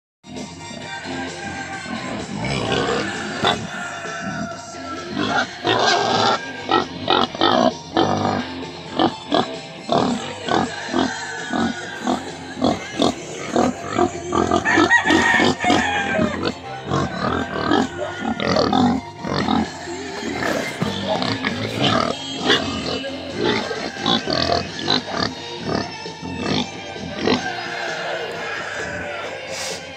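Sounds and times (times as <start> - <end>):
music playing: 0.2 - 29.9
pigs grunting: 1.1 - 29.9.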